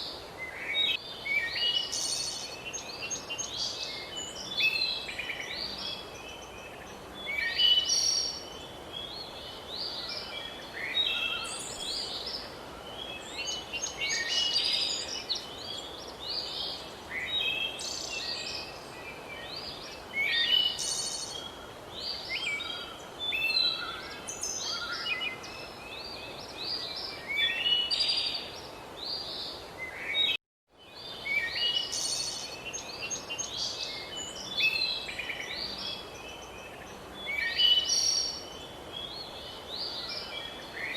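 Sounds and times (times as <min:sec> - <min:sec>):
steady background hiss: 0:00.0 - 0:40.9
birds singing and chirping: 0:00.4 - 0:40.9.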